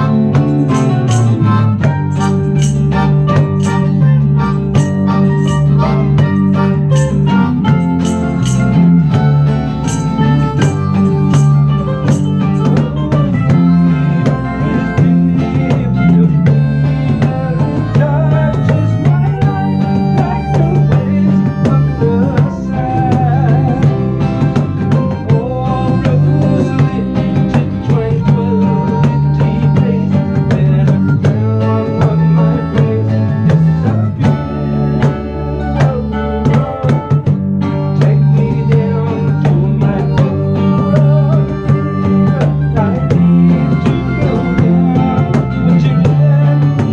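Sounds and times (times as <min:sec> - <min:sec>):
guitar: 0:00.0 - 0:46.9
percussion: 0:00.0 - 0:46.9
person singing: 0:00.0 - 0:46.9.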